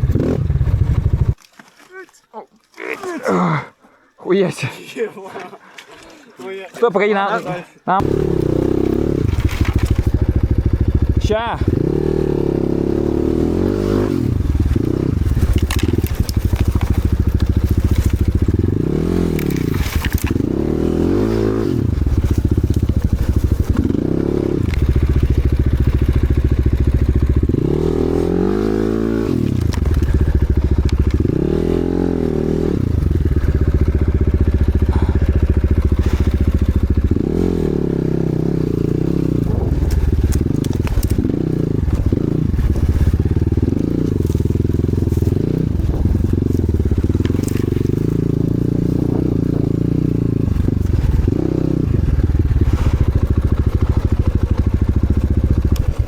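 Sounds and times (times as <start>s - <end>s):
motorcycle engine revving: 0.0s - 1.4s, 8.0s - 56.0s.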